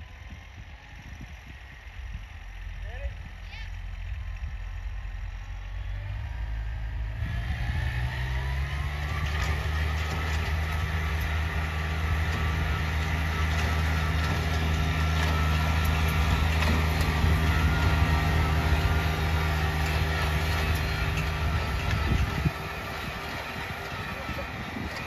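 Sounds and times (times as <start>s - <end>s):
tractor engine running under load: 0.0s - 25.0s.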